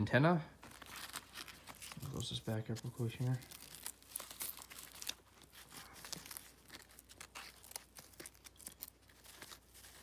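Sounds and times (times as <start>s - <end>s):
nylon pouch rustling and crinkling: 0.6s - 10.0s.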